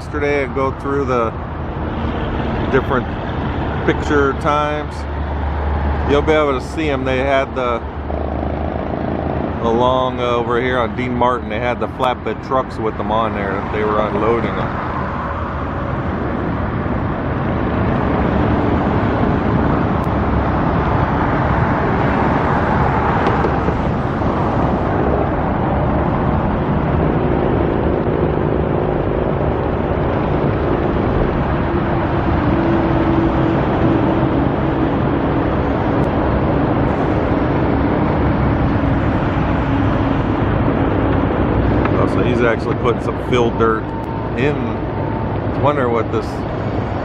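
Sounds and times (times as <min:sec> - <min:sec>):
cars and trucks passing: 0:00.0 - 0:47.0
low engine hum: 0:00.0 - 0:47.0.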